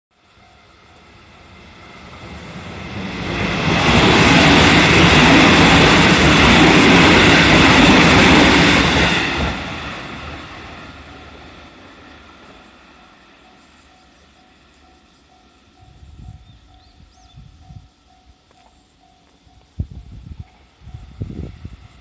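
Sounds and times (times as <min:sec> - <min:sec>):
train passing over crossing: 0:00.1 - 0:22.0.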